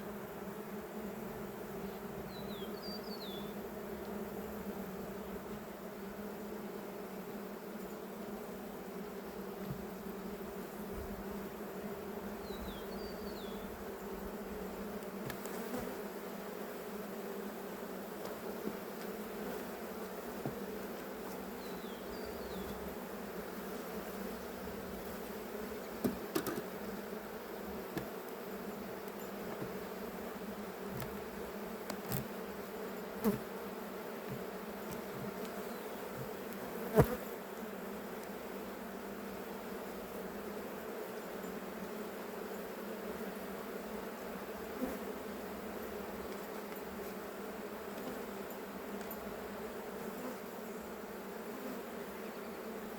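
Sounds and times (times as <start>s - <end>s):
honeybees buzzing: 0.0s - 52.9s.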